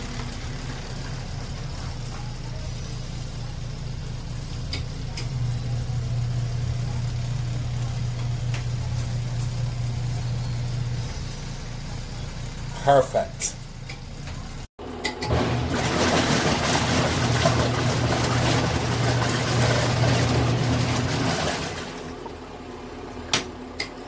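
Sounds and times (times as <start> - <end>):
washing machine motor humming: 0.0 - 24.0.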